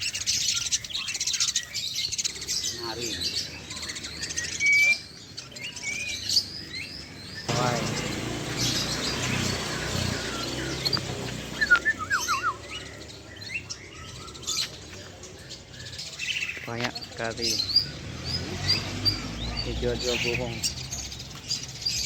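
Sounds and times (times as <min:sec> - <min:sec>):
songbirds chirping and whistling: 0:00.0 - 0:22.0.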